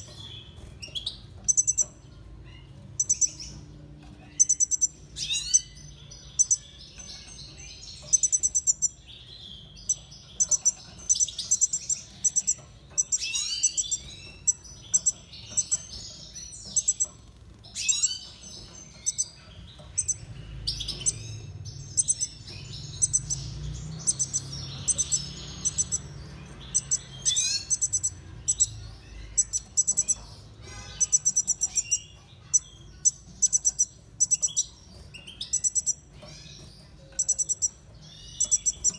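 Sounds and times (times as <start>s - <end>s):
finches chirping and twittering: 0.0s - 38.9s.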